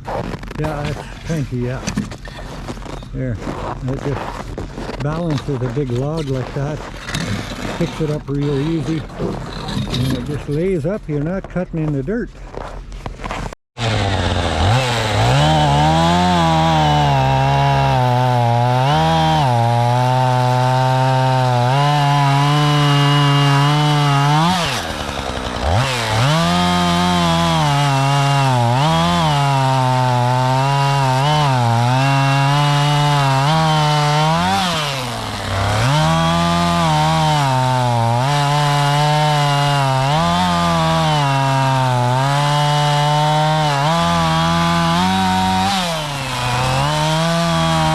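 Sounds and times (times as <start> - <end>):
chainsaw cutting a log: 3.8 - 10.7, 13.8 - 47.9.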